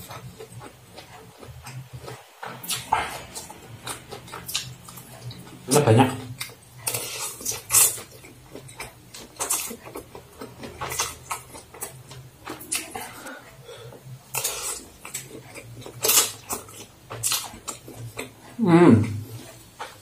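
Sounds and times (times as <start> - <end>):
noodles slurped and chewed: 0.0 - 20.0.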